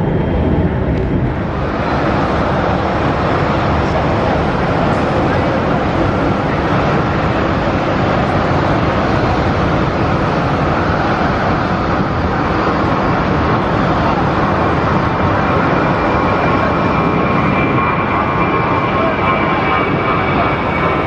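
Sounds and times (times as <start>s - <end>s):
jet engines rumbling at takeoff: 0.0s - 21.0s.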